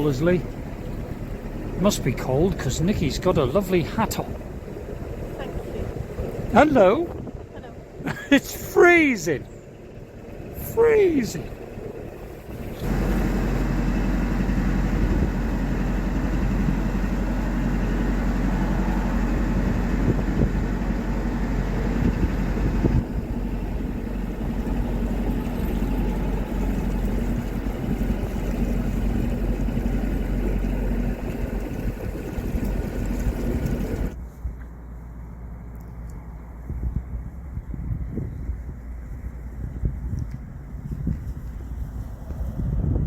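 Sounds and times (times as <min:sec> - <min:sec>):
diesel engine chugging: 0:00.0 - 0:35.6.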